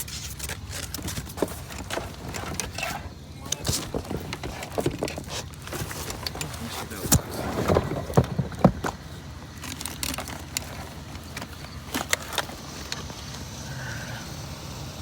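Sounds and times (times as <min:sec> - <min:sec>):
junk clicking and knocking: 0:00.0 - 0:15.0.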